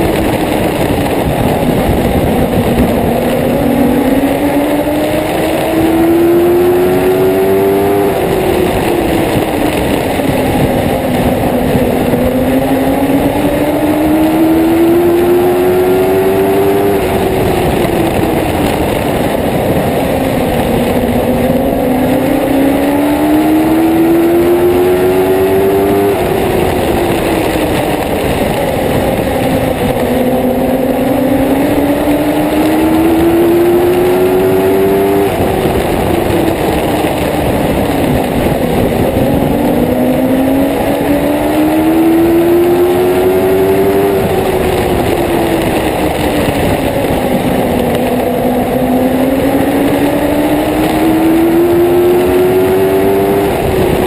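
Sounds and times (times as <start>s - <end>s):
constant rushing noise: 0.0s - 54.0s
race car engine accelerating: 0.0s - 54.0s.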